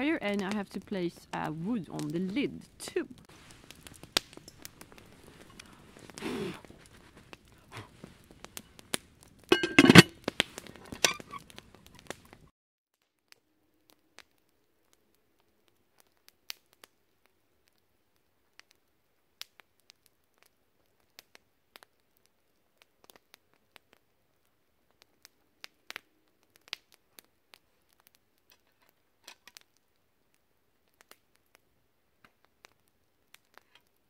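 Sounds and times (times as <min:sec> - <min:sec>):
campfire crackling: 0:00.0 - 0:34.0
fire pops and snaps: 0:00.0 - 0:34.0.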